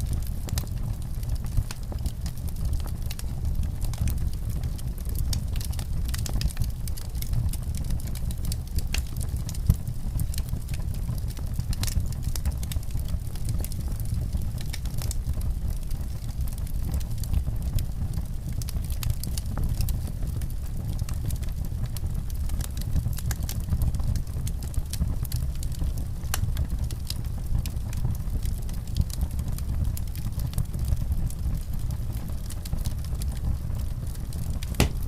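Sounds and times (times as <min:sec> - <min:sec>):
low rumble of flames: 0:00.0 - 0:35.0
wood fire crackling and popping: 0:00.0 - 0:35.0.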